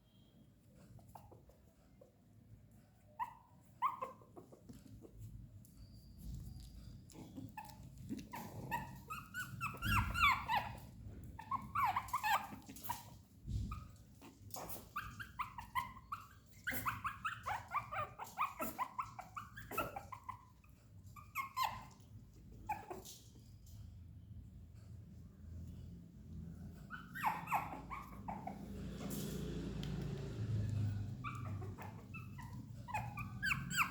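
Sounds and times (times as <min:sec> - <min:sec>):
puppies barking and whining: 0:02.9 - 0:23.7, 0:26.2 - 0:33.9.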